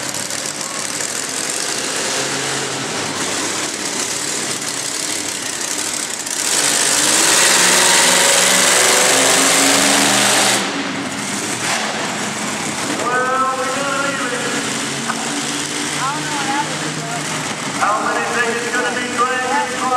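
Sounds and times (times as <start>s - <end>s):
truck engine revving: 0.0s - 19.9s.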